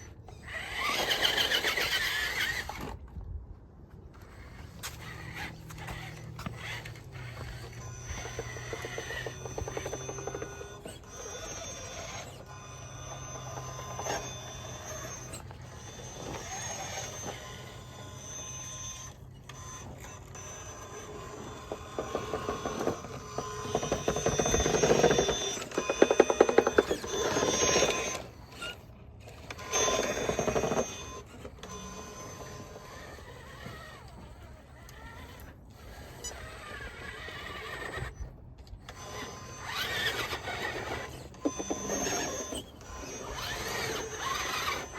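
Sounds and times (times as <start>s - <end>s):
toy car electric motor whining: 0.0s - 3.1s, 4.1s - 44.9s.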